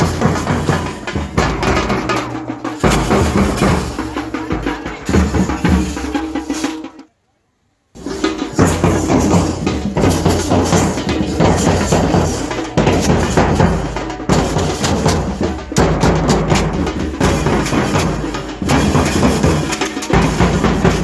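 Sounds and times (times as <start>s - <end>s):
music with drums and percussion: 0.0s - 7.1s, 8.0s - 21.0s.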